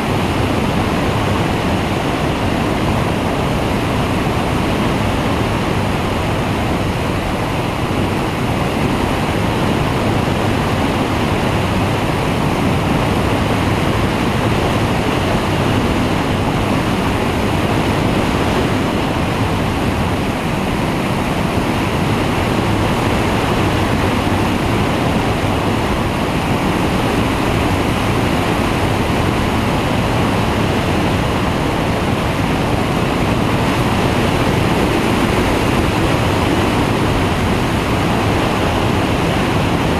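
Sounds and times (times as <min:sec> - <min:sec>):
engine and propeller running: 0:00.0 - 0:39.9
wind rushing over microphone: 0:00.0 - 0:39.9.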